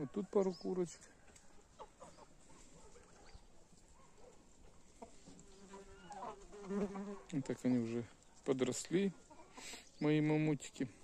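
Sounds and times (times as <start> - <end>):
faint poultry calls: 0.0 - 10.3.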